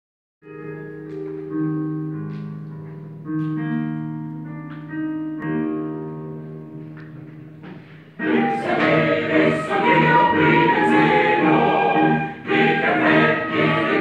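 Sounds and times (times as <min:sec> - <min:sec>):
piano chords ringing: 0:00.4 - 0:14.0.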